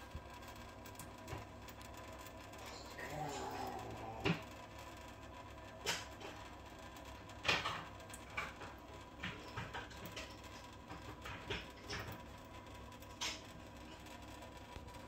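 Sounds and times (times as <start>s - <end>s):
water trickling into sink: 0.0s - 15.0s.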